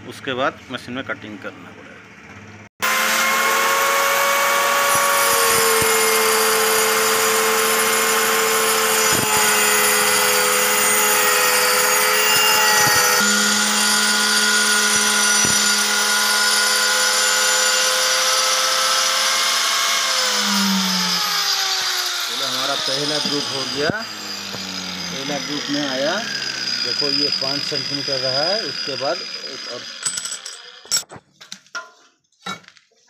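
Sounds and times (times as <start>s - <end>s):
blade grinding stone: 2.8s - 31.2s
stone cutter motor whine: 2.8s - 31.2s.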